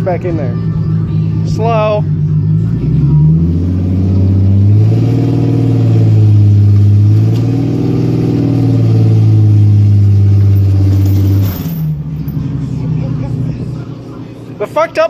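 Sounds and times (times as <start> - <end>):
car engine revving under load: 0.8 - 14.7.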